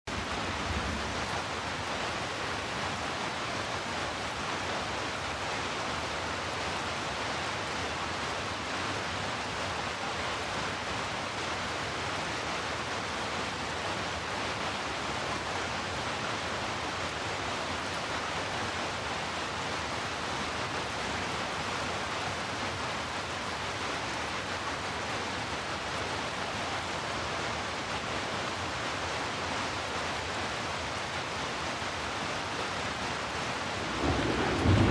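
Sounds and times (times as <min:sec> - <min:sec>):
heavy rain hiss: 0:00.1 - 0:34.9.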